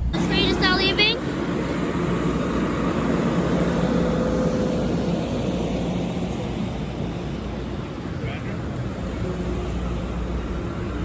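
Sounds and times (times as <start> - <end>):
train car rumble and hum: 0.0 - 11.0.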